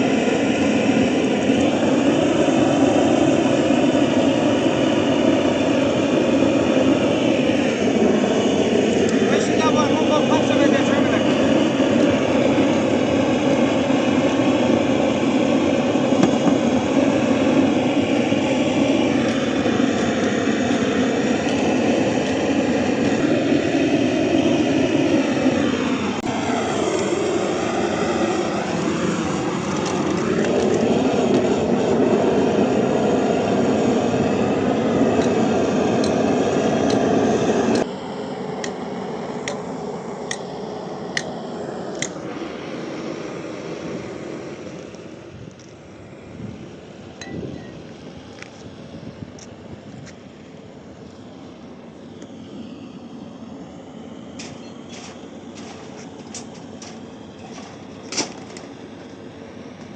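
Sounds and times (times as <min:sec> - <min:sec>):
heavy engine running loudly: 0:00.0 - 0:59.9.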